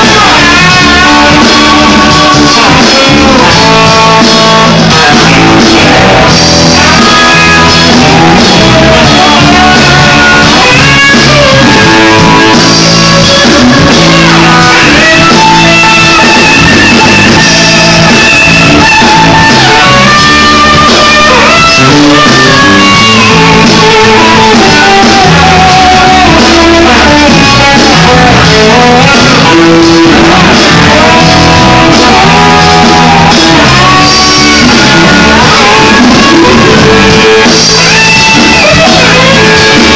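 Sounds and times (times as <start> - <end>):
bending lead guitar notes: 0.0 - 39.9
drum kit: 0.0 - 39.9
electric guitars: 0.0 - 39.9.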